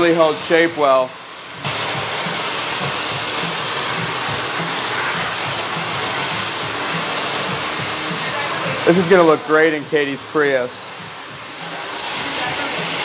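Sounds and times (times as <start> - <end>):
blow dryer running: 0.0 - 13.0.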